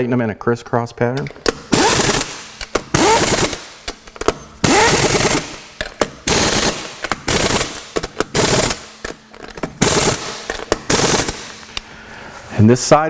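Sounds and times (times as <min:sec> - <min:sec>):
impact wrench rattling: 0:01.2 - 0:12.0.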